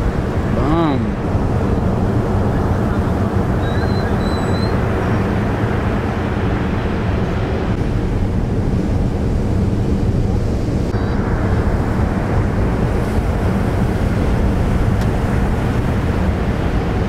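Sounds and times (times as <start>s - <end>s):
sea surf breaking: 0.0s - 17.0s
wind rumbling on microphone: 0.0s - 17.0s.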